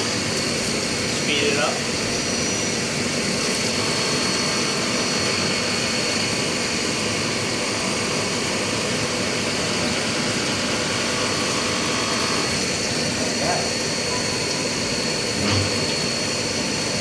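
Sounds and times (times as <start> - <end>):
high steady whine: 0.0 - 17.0
milling machine cutting metal: 0.0 - 17.0.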